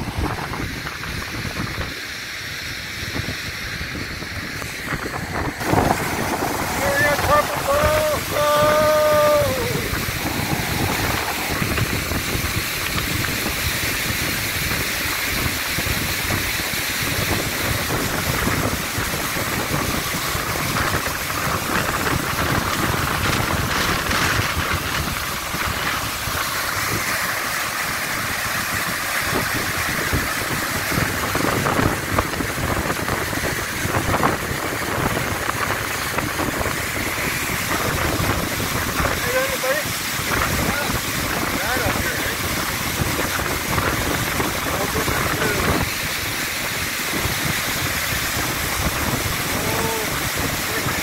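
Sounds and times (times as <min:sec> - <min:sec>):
waterfall rushing over rock: 0:00.0 - 0:51.0.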